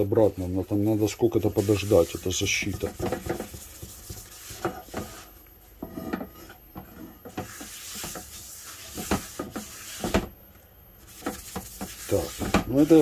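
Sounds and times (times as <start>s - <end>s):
cloth rubbing a frying pan: 0.0s - 10.4s, 11.0s - 13.0s.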